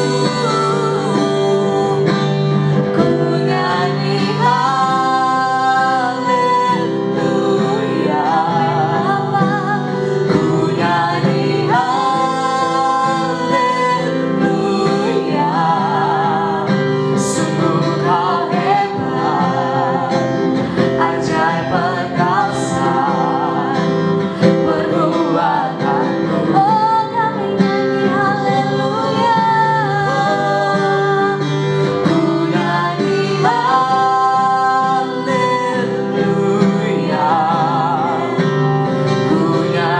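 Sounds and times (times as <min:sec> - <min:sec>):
guitar accompaniment: 0:00.0 - 0:39.9
person singing: 0:00.0 - 0:39.9.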